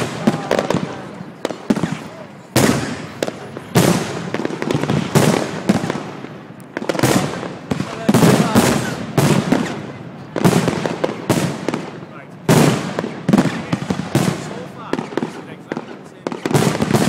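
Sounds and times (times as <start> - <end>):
fireworks bangs with crackle: 0.0 - 17.0.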